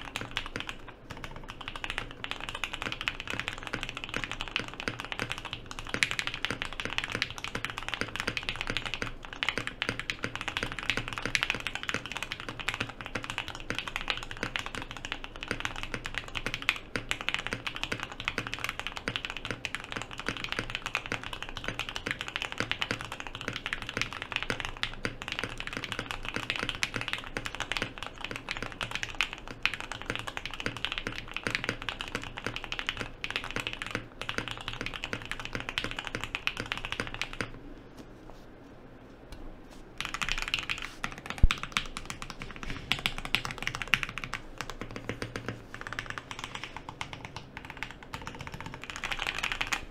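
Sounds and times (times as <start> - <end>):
mechanical keyboard typing: 0.0 - 37.6, 40.0 - 49.9.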